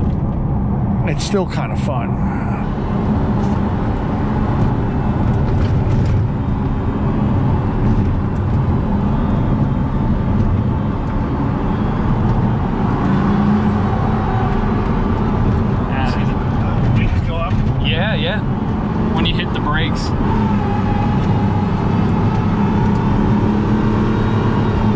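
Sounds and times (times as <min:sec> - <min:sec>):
car engine cruising: 0:00.0 - 0:24.9
road and tire noise: 0:00.0 - 0:24.9.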